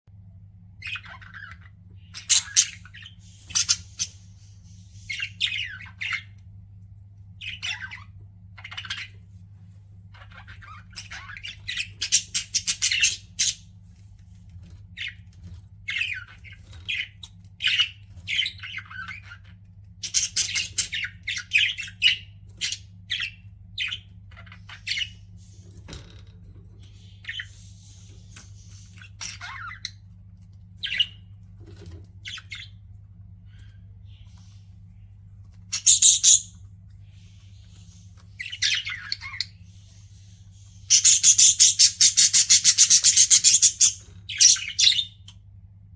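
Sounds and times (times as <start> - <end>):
budgerigars chirping and squawking: 0.8 - 6.5, 7.3 - 13.8, 14.7 - 45.4.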